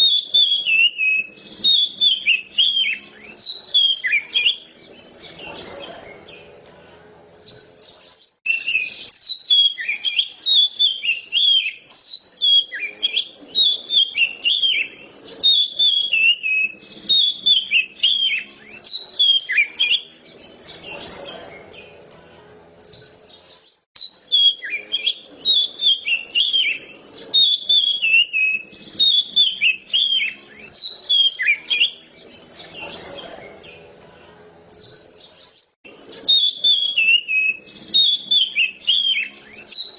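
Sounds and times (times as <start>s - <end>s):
songbird whistling phrases: 0.0s - 6.5s, 8.5s - 21.9s, 24.0s - 33.9s, 36.0s - 39.9s.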